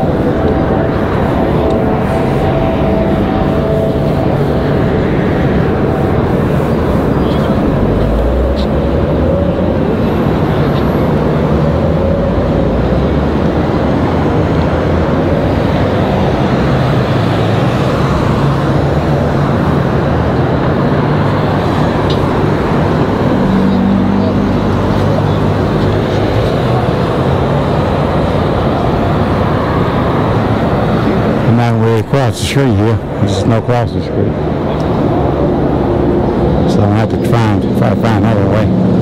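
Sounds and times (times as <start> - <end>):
car engines running: 0.0 - 39.0
cars passing: 0.0 - 39.0.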